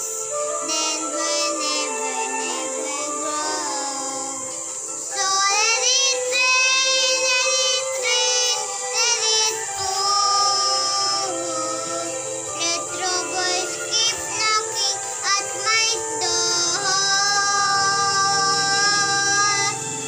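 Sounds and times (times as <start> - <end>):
girls singing: 0.0 - 20.0
musical accompaniment: 0.0 - 20.0.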